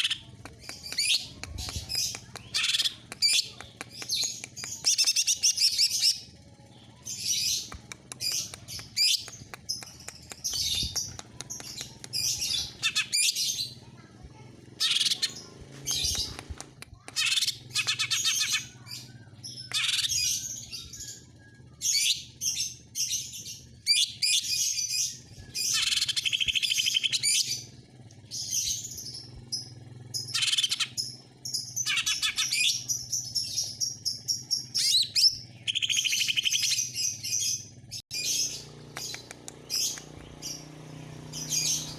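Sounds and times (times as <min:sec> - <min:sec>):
bird singing high chattering phrases: 0:00.0 - 0:41.9.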